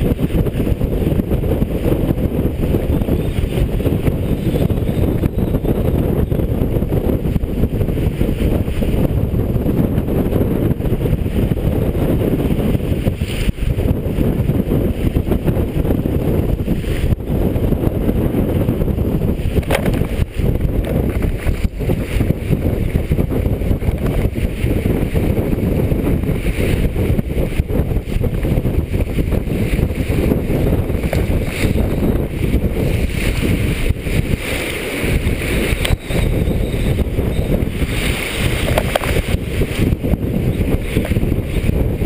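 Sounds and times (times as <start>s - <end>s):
water rushing along hull: 0.0s - 42.0s
wind buffeting microphone: 0.0s - 42.0s.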